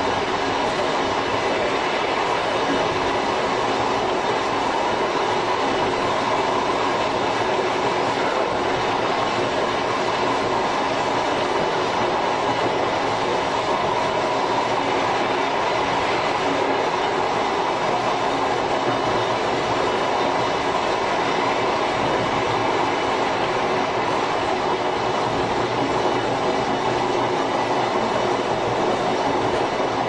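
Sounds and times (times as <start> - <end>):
electric train running: 0.0 - 30.0.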